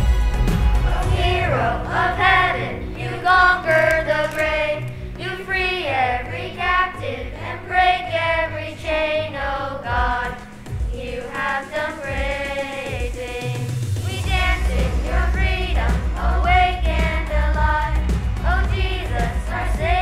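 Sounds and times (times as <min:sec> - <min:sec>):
instrumental accompaniment with bass: 0:00.0 - 0:20.0
children's choir singing: 0:00.8 - 0:20.0.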